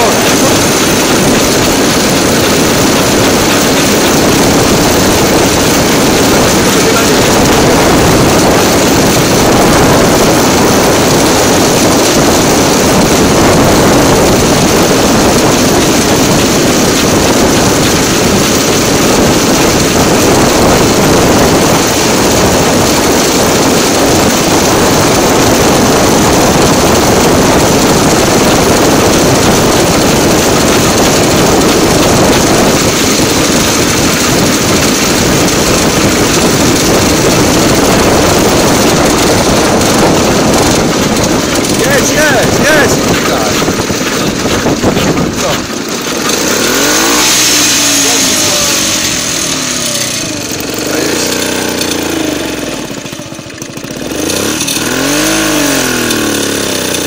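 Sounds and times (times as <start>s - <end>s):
engine drone: 0.0s - 57.0s
wheels on rail: 0.0s - 57.0s.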